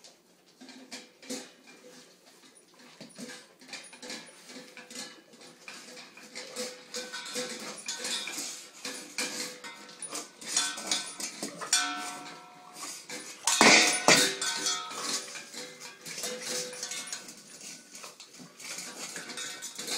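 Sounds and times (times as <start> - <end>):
metal bowls clanking and scraping: 0.5 - 19.9.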